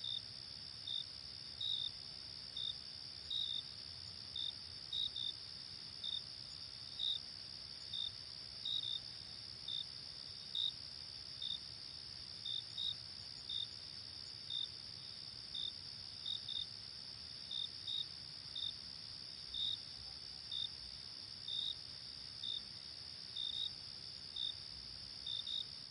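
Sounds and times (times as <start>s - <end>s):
single cricket chirps: 0.0s - 25.9s.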